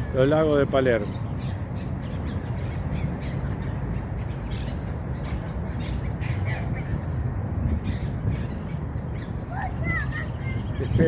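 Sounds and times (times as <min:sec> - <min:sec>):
birds squawking: 0:00.0 - 0:11.0.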